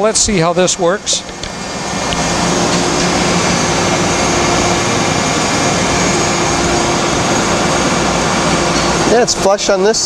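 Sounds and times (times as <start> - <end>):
machinery humming and hissing: 0.0 - 10.0.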